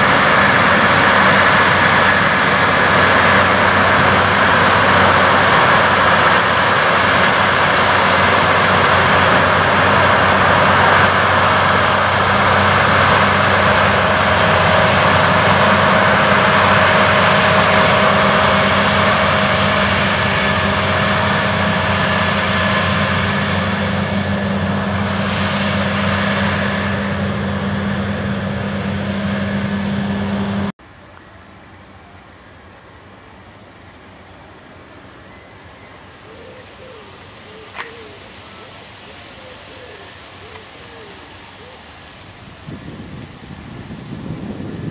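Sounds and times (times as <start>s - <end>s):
diesel machinery drone: 0.0s - 44.9s.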